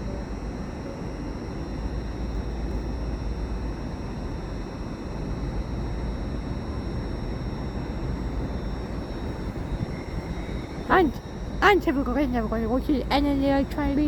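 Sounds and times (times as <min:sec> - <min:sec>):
faint high-pitched whine: 0:00.0 - 0:14.0
train equipment low rumble: 0:00.0 - 0:14.0.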